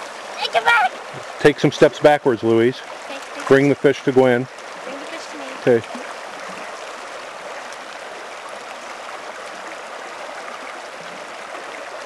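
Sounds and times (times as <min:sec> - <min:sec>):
creek flowing over rocks: 0:00.0 - 0:12.0.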